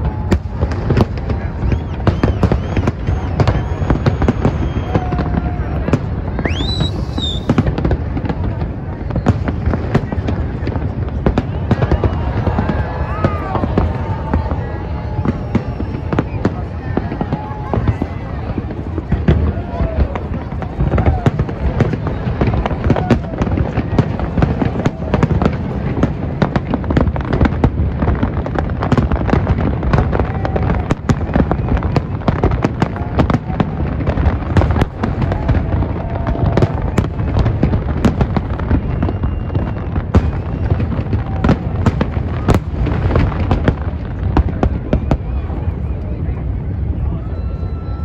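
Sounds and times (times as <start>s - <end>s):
fireworks bangs: 0.0s - 48.0s
fireworks rumble: 0.0s - 48.0s.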